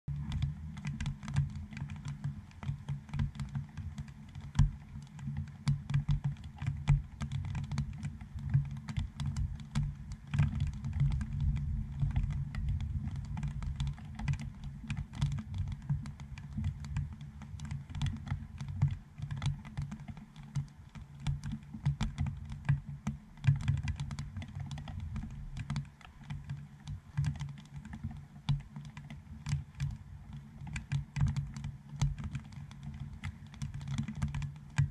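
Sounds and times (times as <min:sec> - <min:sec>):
raindrops tapping on camera housing: 0:00.1 - 0:34.9.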